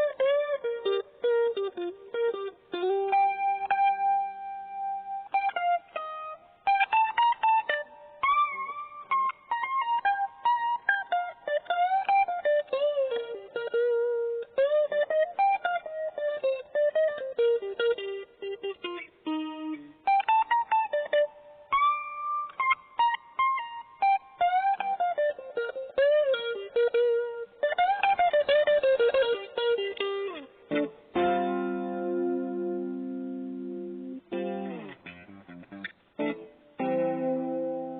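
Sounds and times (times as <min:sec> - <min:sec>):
electric guitar melody with string bends: 0:00.0 - 0:37.9
guitar chord ringing: 0:00.0 - 0:37.9.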